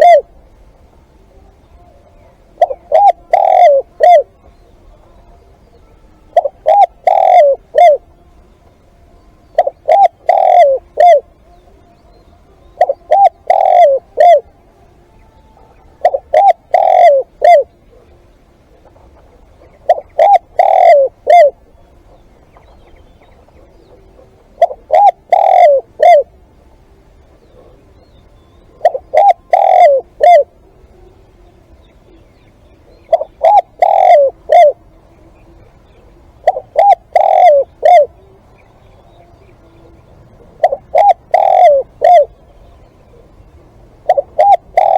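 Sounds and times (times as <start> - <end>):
dove cooing: 0.0 - 0.6, 1.2 - 44.9.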